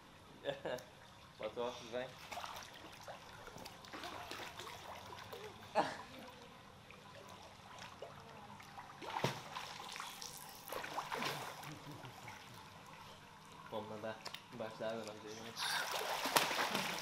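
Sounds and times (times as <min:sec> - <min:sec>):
pool water splashing: 0:00.0 - 0:17.0.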